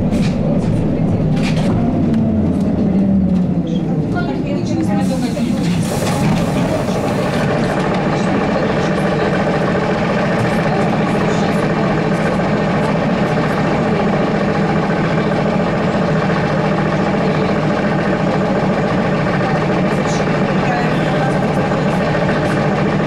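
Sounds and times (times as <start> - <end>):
trolleybus cabin hum: 0.0 - 23.0.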